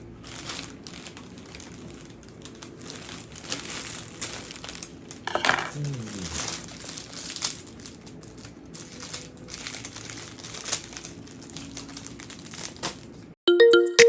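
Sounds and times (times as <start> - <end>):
cellophane crinkling: 0.2 - 5.2, 5.8 - 13.3.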